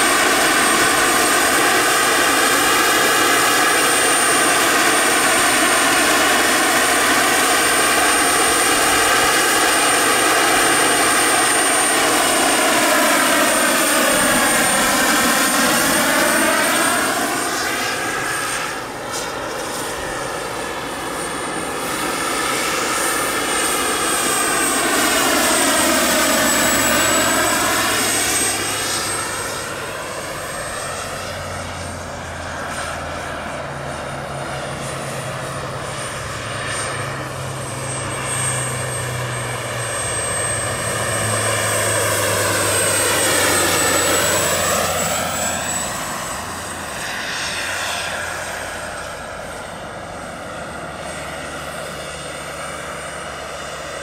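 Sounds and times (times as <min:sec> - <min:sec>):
helicopter rotor and engine: 0:00.0 - 0:54.0
model helicopter turbine whine: 0:00.0 - 0:54.0.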